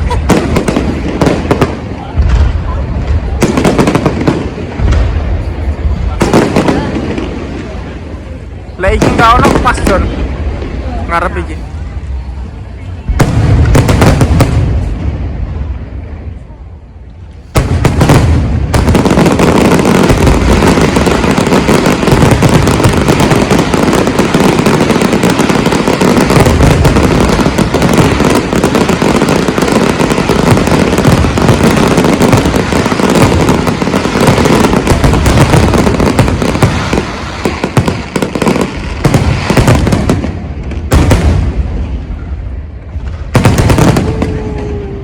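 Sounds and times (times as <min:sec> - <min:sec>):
fireworks bangs and crackling: 0:00.0 - 0:45.0.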